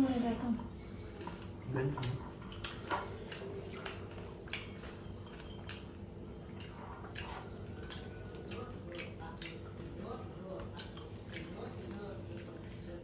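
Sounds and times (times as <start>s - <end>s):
steady low hum: 0.0s - 13.0s
chewing and dish clicks: 0.6s - 11.7s.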